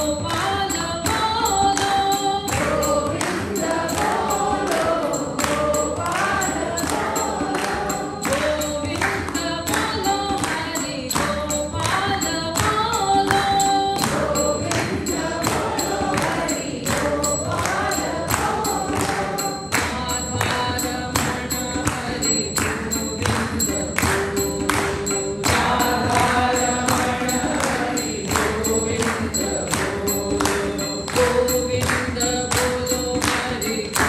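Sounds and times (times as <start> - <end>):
tabla playing: 0.0 - 34.0
woman singing: 0.0 - 34.0.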